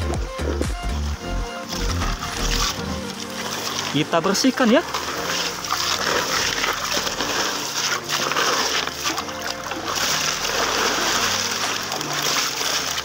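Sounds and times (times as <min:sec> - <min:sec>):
faint background music: 0:00.0 - 0:13.0
water splashing over gravel: 0:00.0 - 0:13.0.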